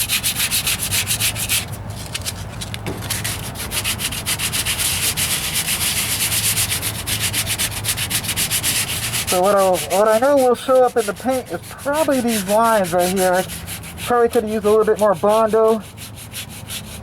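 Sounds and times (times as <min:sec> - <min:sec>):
hand sanding with sandpaper: 0:00.0 - 0:17.0.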